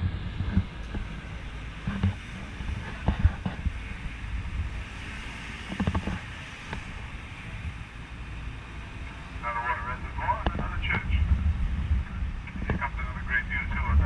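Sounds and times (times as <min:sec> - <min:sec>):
vehicle engine and tyres rumbling: 0:00.0 - 0:14.0
wind noise on microphone: 0:00.0 - 0:14.0.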